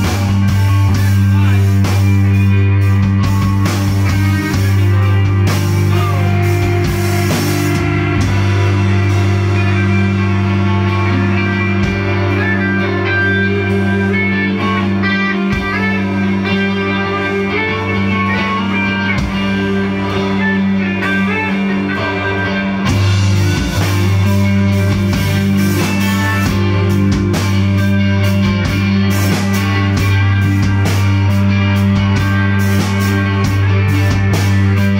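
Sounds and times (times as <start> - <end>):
drums: 0.0 - 34.9
electric guitars: 0.0 - 34.9
low bass note: 0.0 - 34.9.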